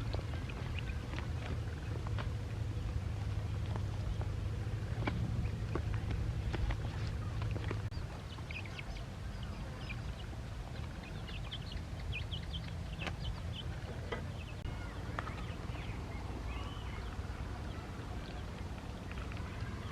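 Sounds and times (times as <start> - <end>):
ducklings peeping: 0.0 - 19.9
steady low rumble: 0.0 - 19.9.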